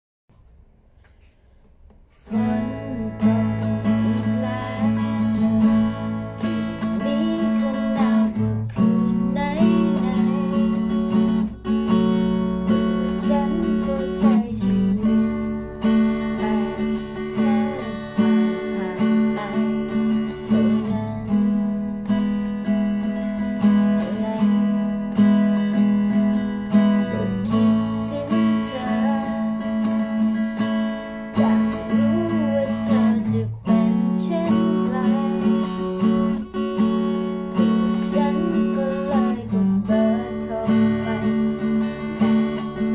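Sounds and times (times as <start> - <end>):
acoustic guitar strumming: 2.1 - 42.9.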